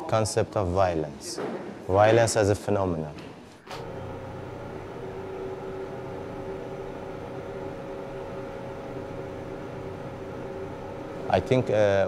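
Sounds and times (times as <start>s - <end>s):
mechanical hum with hiss: 0.0s - 12.0s.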